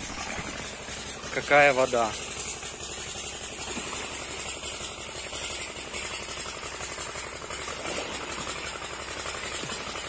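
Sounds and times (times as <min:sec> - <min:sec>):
road machinery rattling: 0:00.0 - 0:10.0.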